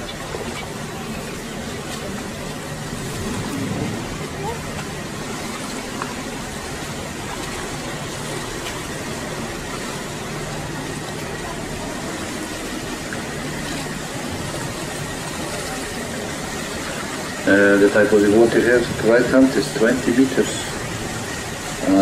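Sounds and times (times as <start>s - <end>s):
boat engine humming: 0.0s - 22.0s
water hissing: 0.0s - 22.0s.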